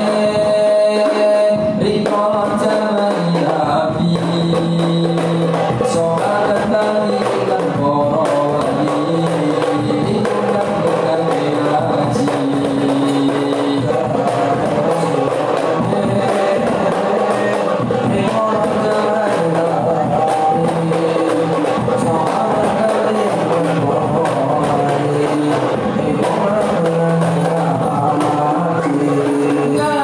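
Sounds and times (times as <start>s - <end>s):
frame drums in rapid rhythm: 0.0s - 30.0s
group singing long notes: 0.0s - 30.0s.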